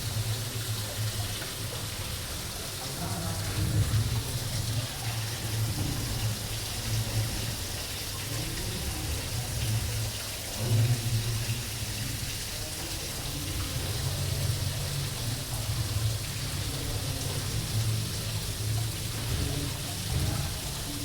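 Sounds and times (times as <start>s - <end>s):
aquarium water splashing: 0.0s - 21.0s.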